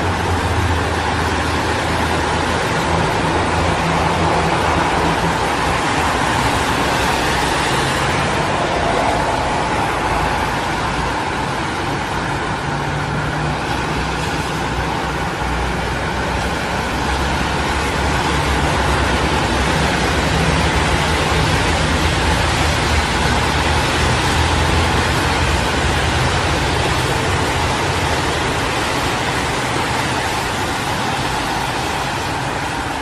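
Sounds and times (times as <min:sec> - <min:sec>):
road traffic noise: 0:00.0 - 0:33.0.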